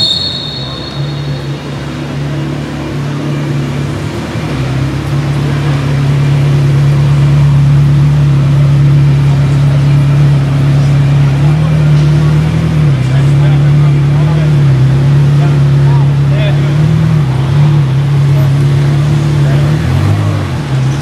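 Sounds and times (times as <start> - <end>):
car engine idling in a hall: 0.0 - 21.0.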